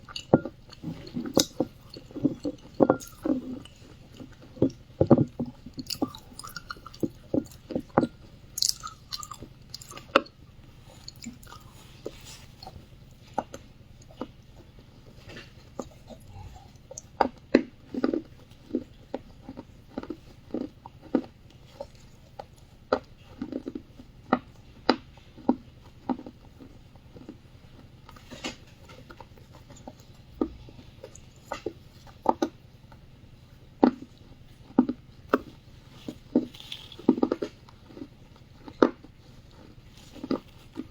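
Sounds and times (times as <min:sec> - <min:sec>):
person chewing wet clay: 0:00.0 - 0:40.9.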